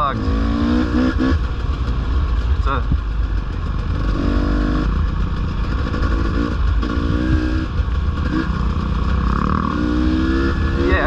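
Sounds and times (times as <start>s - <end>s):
dirt bike engine revving: 0.0s - 2.0s, 2.6s - 11.0s.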